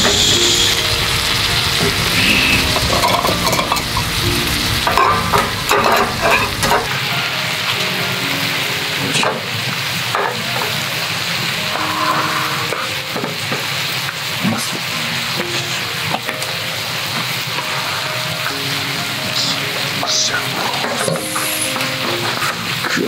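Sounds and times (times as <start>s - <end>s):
food sizzling in a hot pan: 0.0s - 23.0s.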